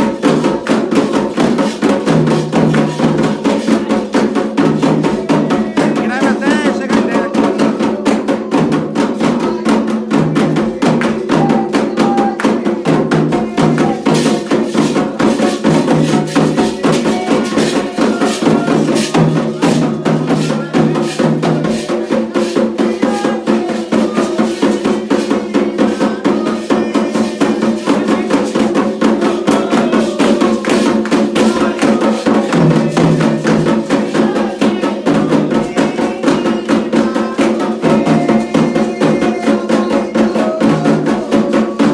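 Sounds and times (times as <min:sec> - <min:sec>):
hand drums and percussion: 0:00.0 - 0:41.9.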